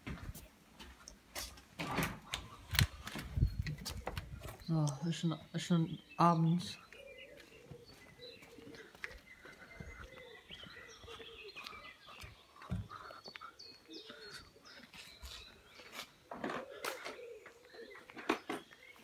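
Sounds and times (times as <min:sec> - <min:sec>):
birds chirping: 0:00.8 - 0:19.0.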